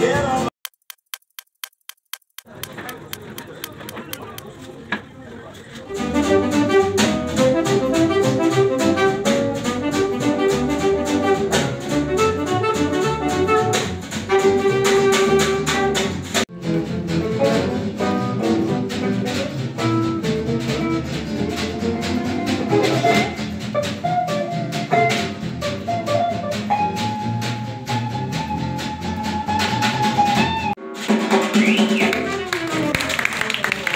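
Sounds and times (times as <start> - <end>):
instrumental music with brass melody: 5.9 - 33.4.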